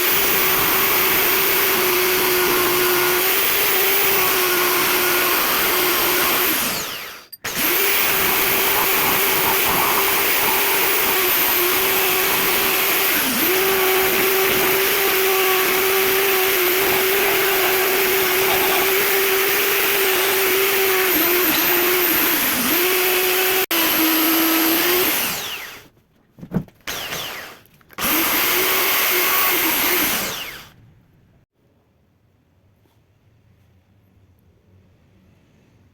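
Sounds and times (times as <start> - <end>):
electric drill whining: 0.0 - 25.9, 26.9 - 30.8.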